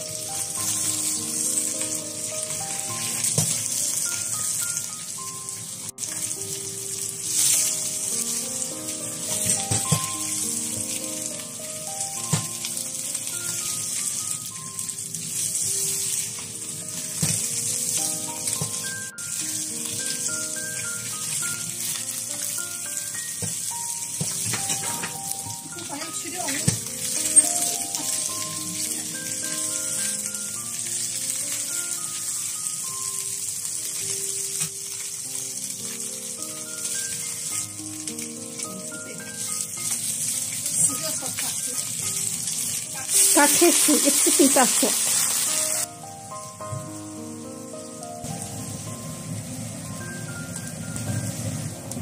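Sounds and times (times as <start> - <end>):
background music: 0.0 - 52.0
fish sizzling in oil: 0.0 - 52.0.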